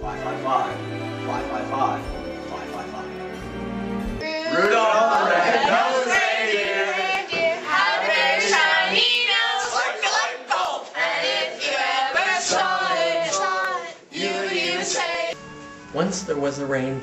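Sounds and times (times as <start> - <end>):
group singing in chorus: 0.0 - 15.4.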